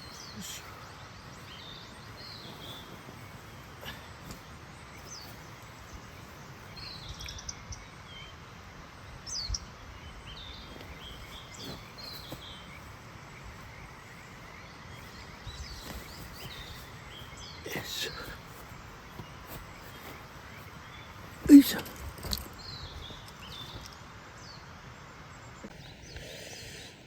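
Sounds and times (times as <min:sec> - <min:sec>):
outdoor background hiss: 0:00.0 - 0:27.0
wild birds chirping and whistling: 0:00.0 - 0:27.0.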